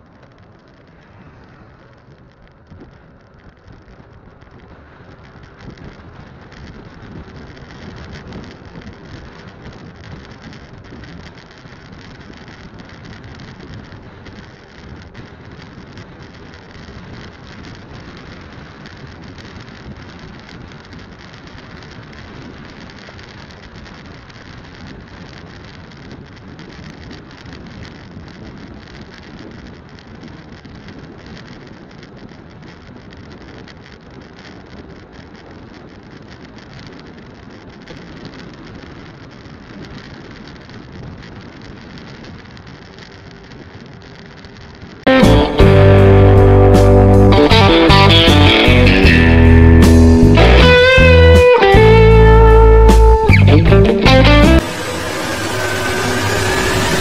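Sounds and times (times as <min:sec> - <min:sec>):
motorcycle engine and road noise: 0:00.0 - 0:57.0
wind on microphone: 0:00.7 - 0:54.1.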